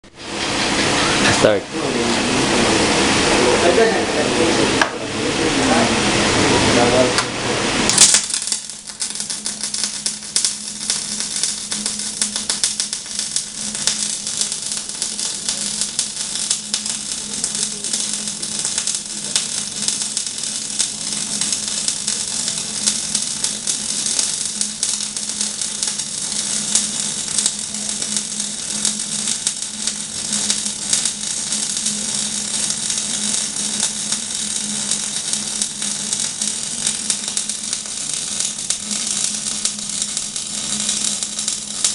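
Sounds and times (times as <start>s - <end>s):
steady low hum: 0.0s - 41.9s
welding arc crackling: 0.0s - 41.9s.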